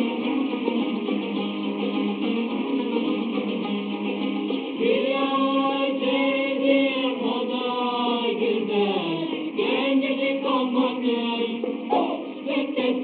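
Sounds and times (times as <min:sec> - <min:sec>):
choir singing held notes: 0:00.0 - 0:13.0
plucked string instrument: 0:00.0 - 0:13.0.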